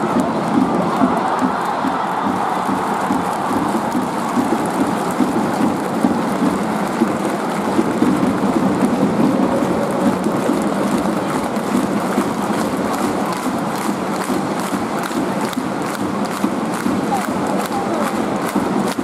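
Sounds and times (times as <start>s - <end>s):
stadium crowd clapping and noise: 0.0s - 19.0s.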